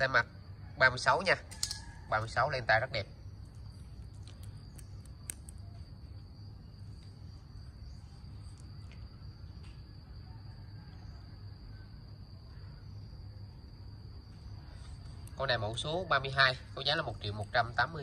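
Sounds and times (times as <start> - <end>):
high-pitched insect trill: 0.0 - 18.0.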